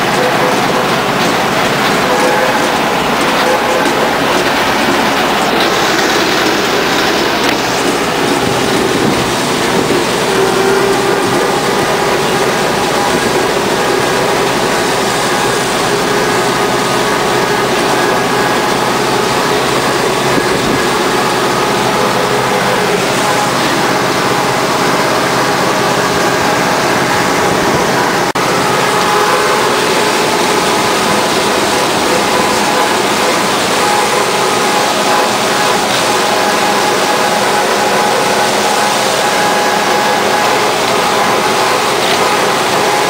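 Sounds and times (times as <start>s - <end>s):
tractor and mower droning: 0.0s - 43.0s.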